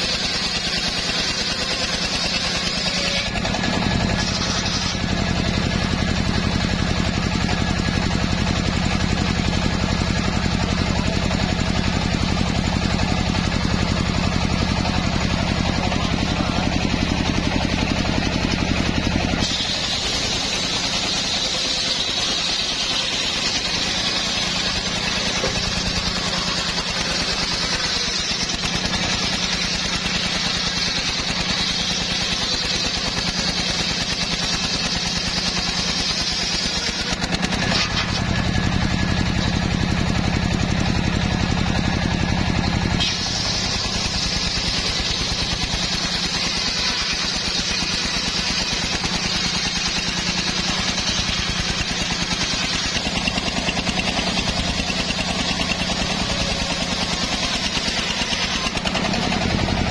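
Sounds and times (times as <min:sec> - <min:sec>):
engine drone: 0:00.0 - 0:59.9
saw blade cutting wood: 0:00.0 - 0:59.9.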